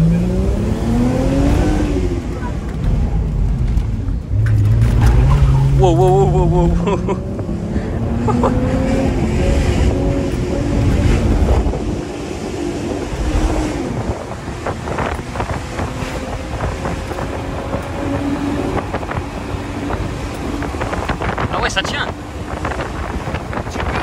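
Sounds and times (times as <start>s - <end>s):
sports car engine accelerating: 0.0s - 24.0s
wind and road noise: 0.0s - 24.0s.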